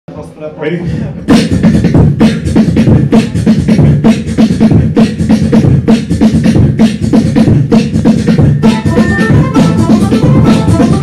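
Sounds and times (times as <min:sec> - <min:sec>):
person beatboxing into microphone: 0:00.8 - 0:11.0.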